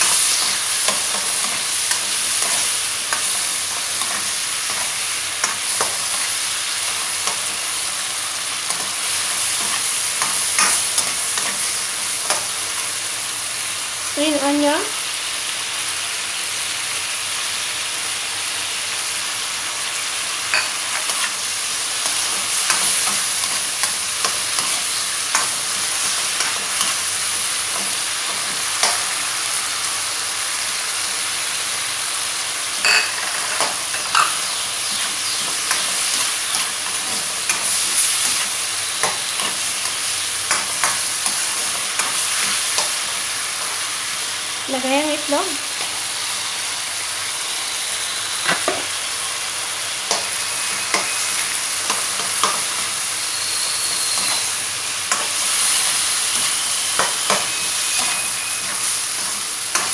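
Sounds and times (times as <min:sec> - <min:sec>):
vegetables sizzling in oil: 0:00.0 - 0:59.9.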